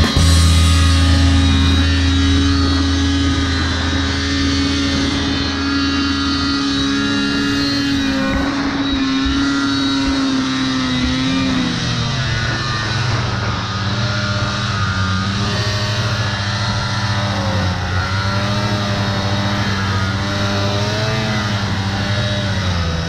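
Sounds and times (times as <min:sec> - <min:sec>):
snowmobile engine running: 0:00.0 - 0:23.0.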